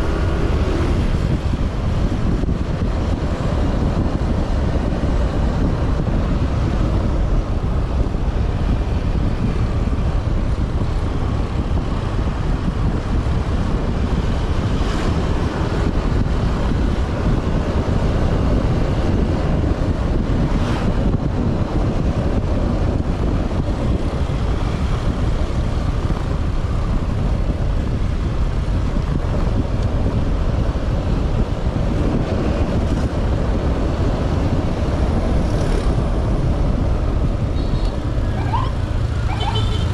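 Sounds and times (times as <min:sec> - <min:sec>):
road and engine noise: 0:00.0 - 0:39.9
wind buffeting microphone: 0:00.0 - 0:39.9.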